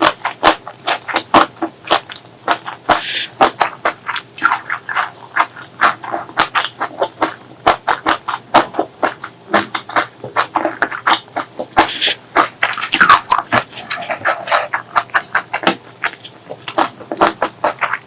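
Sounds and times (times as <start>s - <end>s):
wet chewing and mouth smacking: 0.0s - 18.0s.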